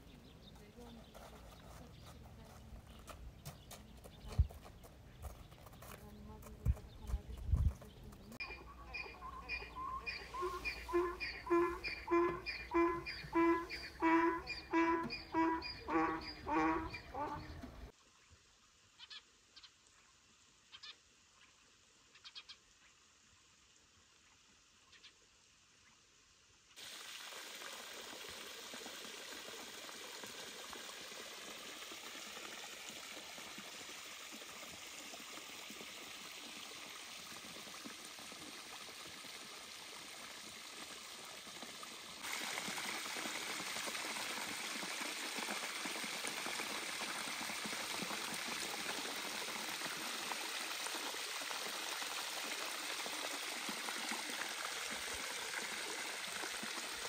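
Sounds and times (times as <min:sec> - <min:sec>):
water trickling into pool: 0:08.2 - 0:57.0.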